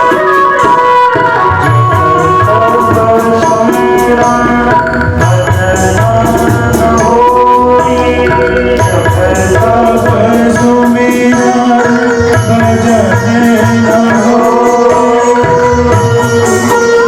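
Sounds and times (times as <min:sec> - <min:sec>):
person singing a melody: 0:00.0 - 0:17.0
tabla playing a rhythm: 0:00.0 - 0:17.0.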